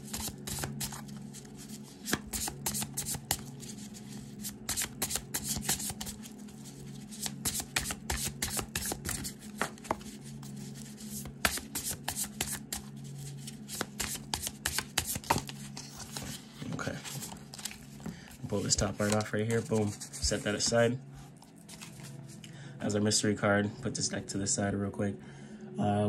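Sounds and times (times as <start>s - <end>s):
cards being shuffled: 0.0s - 20.8s, 21.4s - 22.4s.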